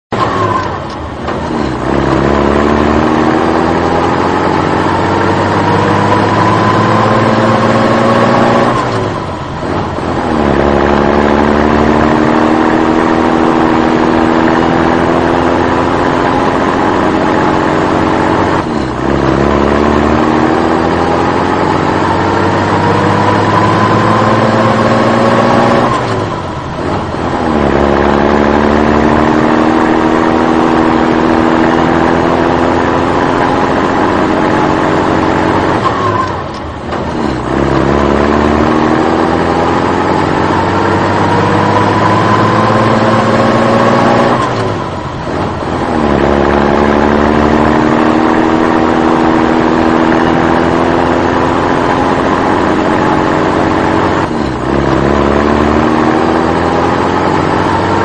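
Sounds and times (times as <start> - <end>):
vehicle engine accelerating: 0.0 - 58.0.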